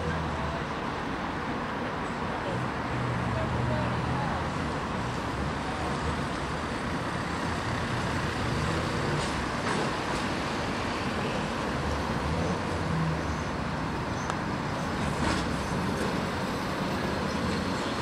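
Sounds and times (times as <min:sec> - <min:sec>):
tram running on rails: 0:00.0 - 0:18.0.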